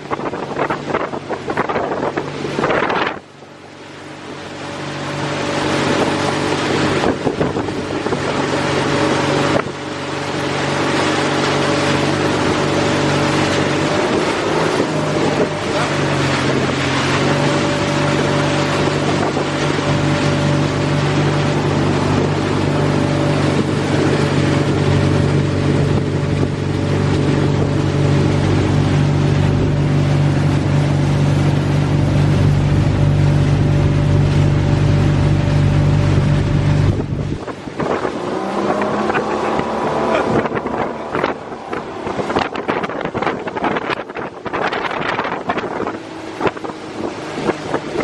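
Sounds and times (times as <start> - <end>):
boat engine drone: 0.0 - 48.0
gusty wind: 0.0 - 48.0
water noise: 0.0 - 48.0.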